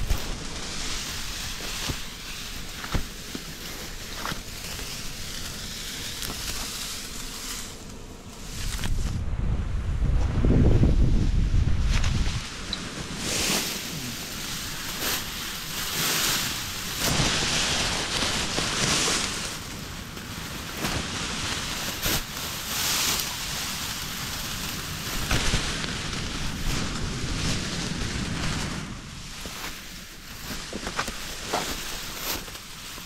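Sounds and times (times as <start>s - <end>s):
dry grass rustling in wind: 0.0s - 33.0s.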